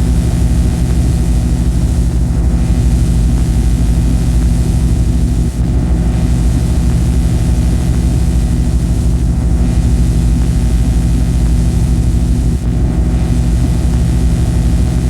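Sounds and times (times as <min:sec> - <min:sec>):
low humming drone: 0:00.0 - 0:15.0.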